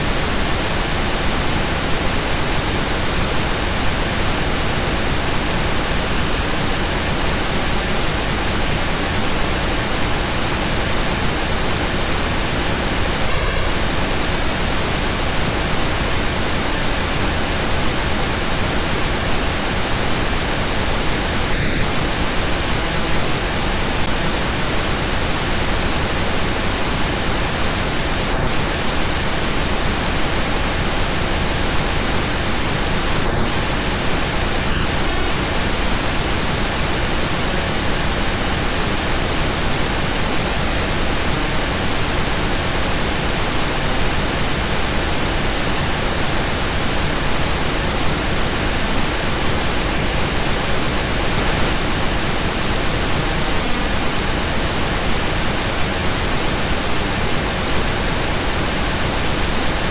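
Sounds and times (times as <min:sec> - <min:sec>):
steady hiss of noise: 0:00.0 - 0:59.9.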